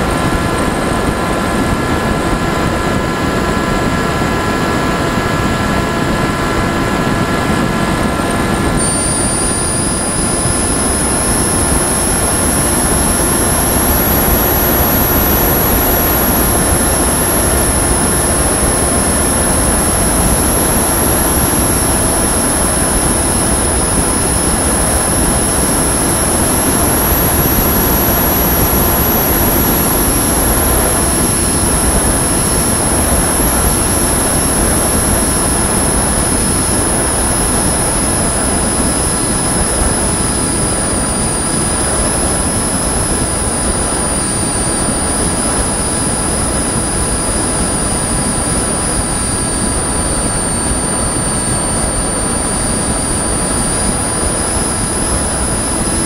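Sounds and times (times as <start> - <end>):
loud wind rush: 0.0 - 56.0
model aircraft motor whine: 0.0 - 56.0.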